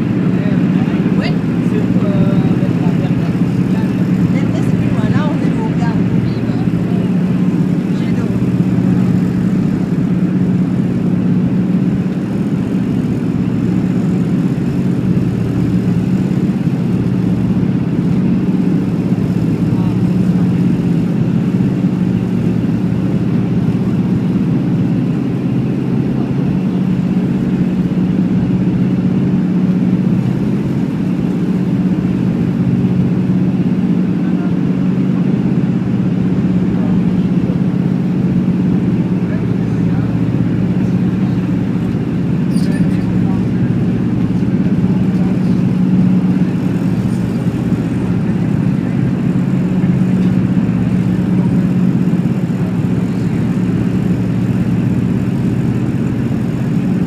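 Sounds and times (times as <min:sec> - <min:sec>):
propeller aircraft engines droning: 0:00.0 - 0:57.0.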